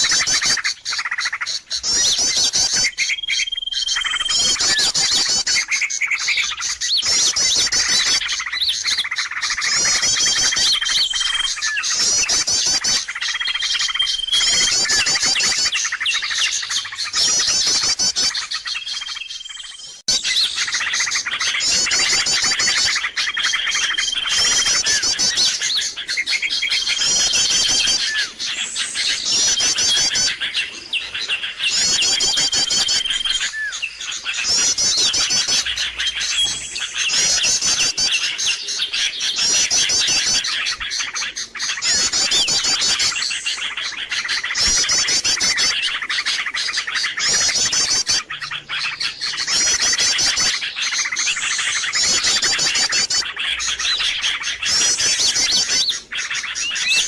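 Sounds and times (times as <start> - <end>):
small birds chattering and chirping: 0.0 - 57.0.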